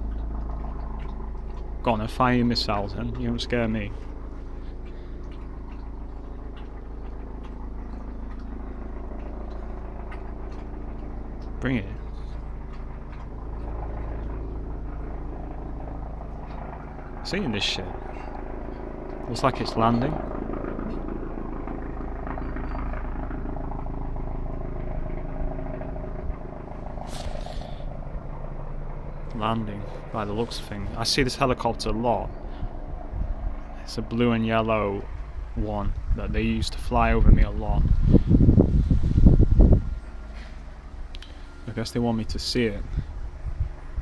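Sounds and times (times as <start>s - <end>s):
helicopter hovering: 0.0s - 44.0s.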